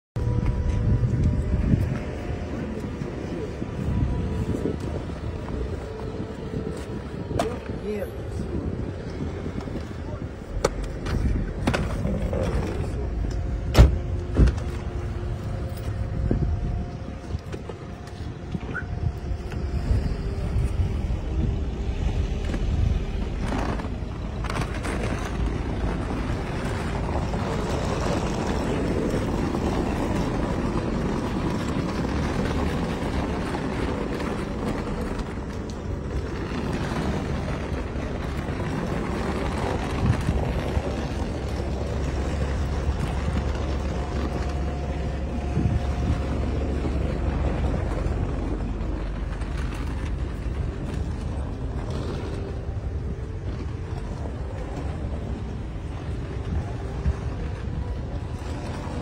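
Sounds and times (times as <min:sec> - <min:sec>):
traffic rumble: 0:00.2 - 0:59.0.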